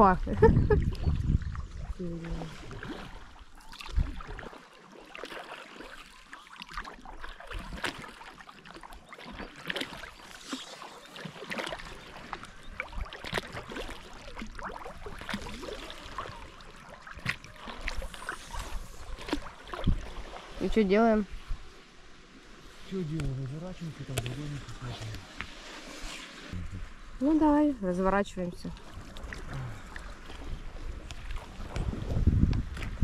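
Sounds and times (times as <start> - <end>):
kayak paddle splashes and drips: 0.6 - 26.6, 28.6 - 33.0.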